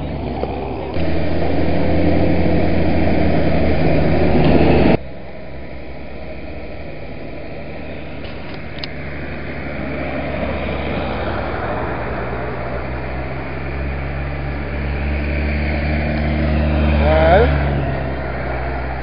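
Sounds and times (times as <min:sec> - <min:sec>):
tractor engines driving past: 0:00.0 - 0:19.0.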